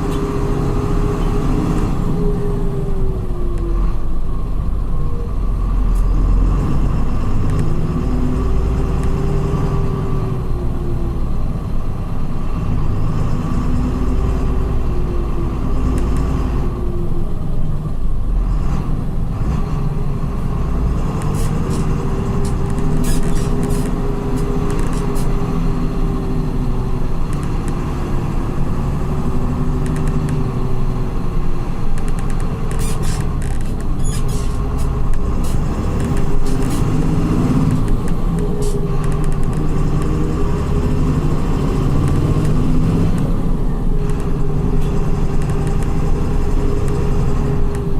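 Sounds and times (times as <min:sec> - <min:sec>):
diesel coach engine accelerating: 0:00.0 - 0:47.9.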